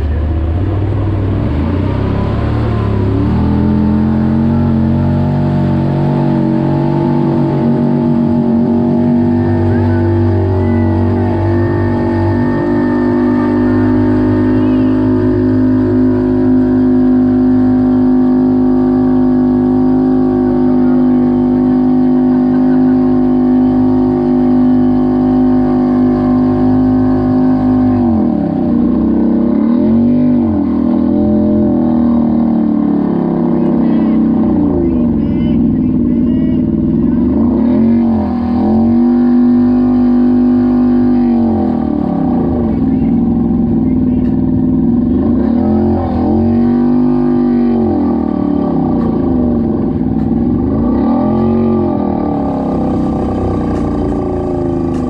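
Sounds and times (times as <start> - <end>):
engine running under load: 0.0 - 55.0
vehicle wading through water: 0.0 - 55.0.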